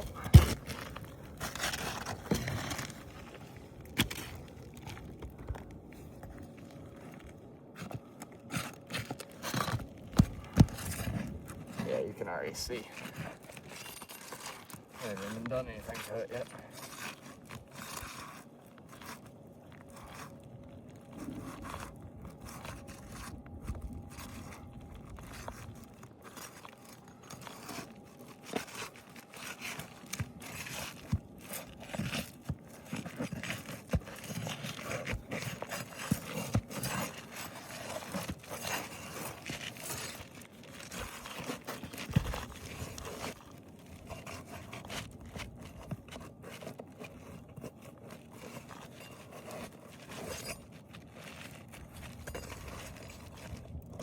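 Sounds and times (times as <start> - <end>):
roof shingles scraping and crunching: 0.0 - 54.0.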